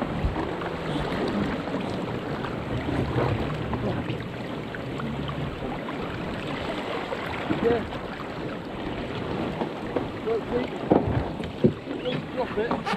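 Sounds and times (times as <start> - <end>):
water splashing along hull: 0.0 - 12.9.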